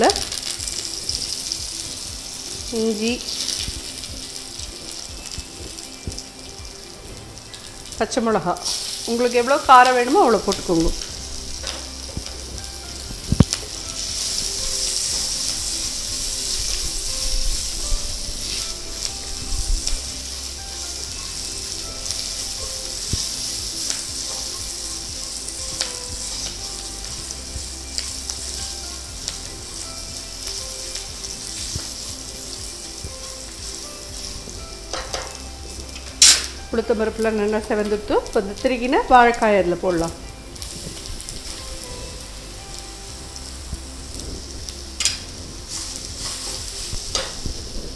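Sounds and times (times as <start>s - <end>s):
spices sizzling in oil: 0.0s - 47.9s.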